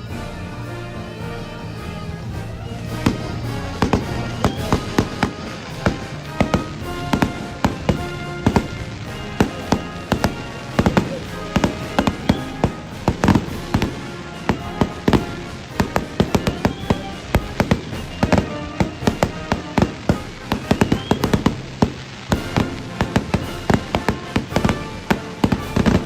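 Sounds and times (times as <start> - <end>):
fireworks bangs and crackles: 0.0 - 26.0
music: 0.0 - 26.0.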